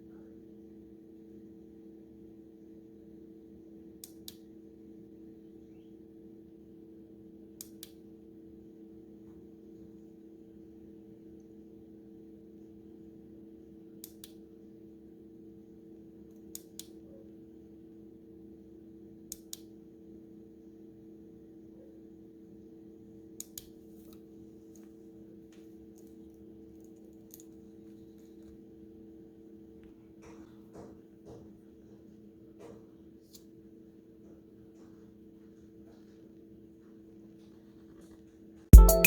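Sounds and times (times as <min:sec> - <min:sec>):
low electrical hum: 0:00.0 - 0:38.8.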